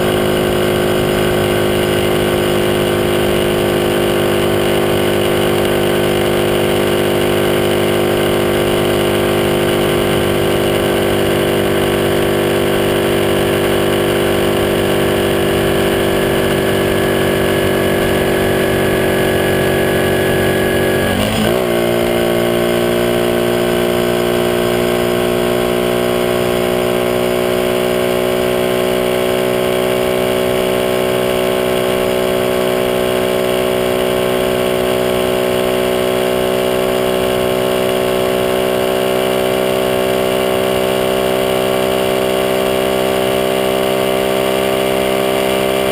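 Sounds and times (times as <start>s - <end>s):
small motorcycle engine running: 0.0s - 45.9s.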